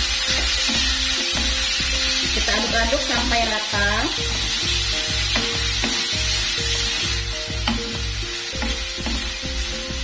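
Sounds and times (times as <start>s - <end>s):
chicken sizzling in a wok: 0.0s - 10.0s.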